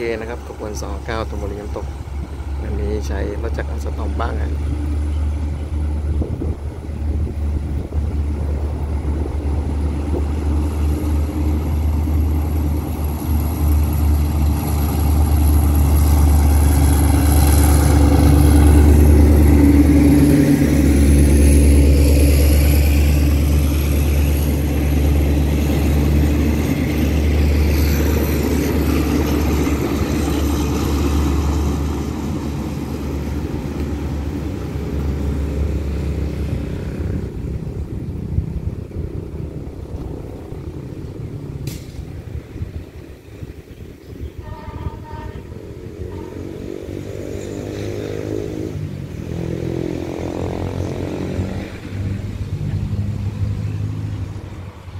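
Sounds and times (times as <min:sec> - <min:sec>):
diesel locomotive engine rumble: 0:00.0 - 0:54.9
passenger coaches rolling by: 0:00.0 - 0:54.9.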